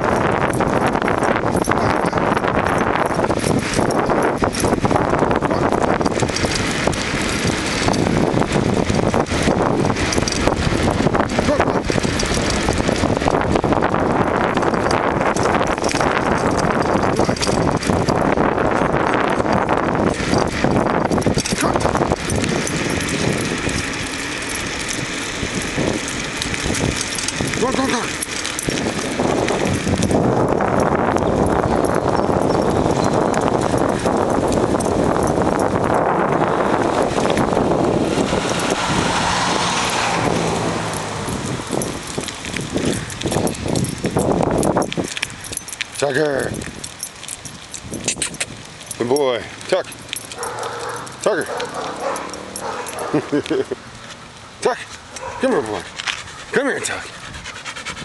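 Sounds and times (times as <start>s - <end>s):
wheels rolling on asphalt: 0.0s - 58.0s
wind buffeting microphone: 0.0s - 58.0s.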